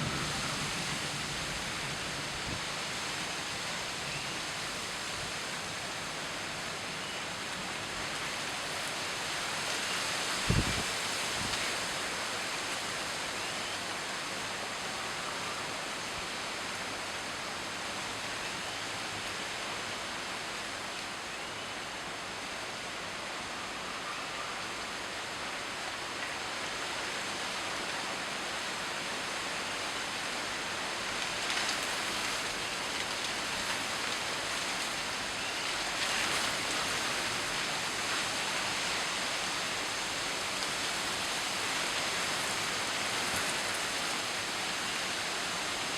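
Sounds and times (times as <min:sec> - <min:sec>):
rain falling in wind: 0:00.0 - 0:45.9.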